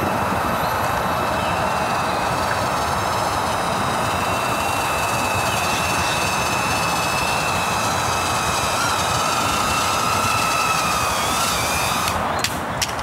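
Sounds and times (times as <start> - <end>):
lower motor tone: 0.0 - 12.2
loud rushing hiss: 0.0 - 12.8
quadcopter motors whining: 0.0 - 13.0.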